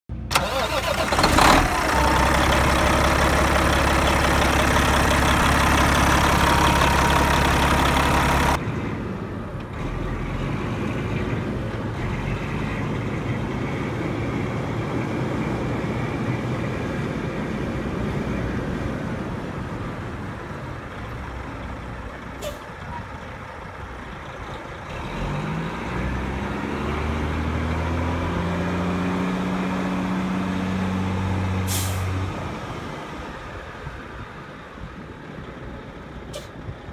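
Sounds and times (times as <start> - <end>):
diesel truck engine: 0.1 - 36.9.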